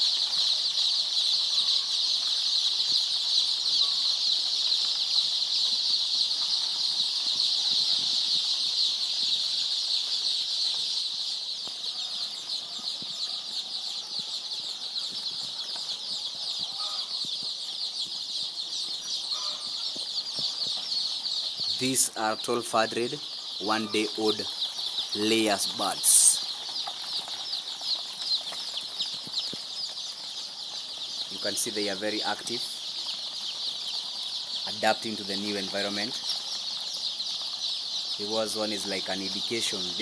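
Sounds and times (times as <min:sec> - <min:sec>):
chicks peeping: 0:00.0 - 0:40.0.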